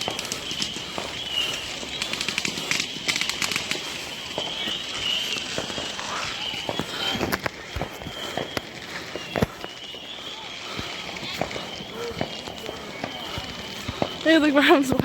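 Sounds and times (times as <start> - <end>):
fireworks crackling pops: 0.0 - 15.0.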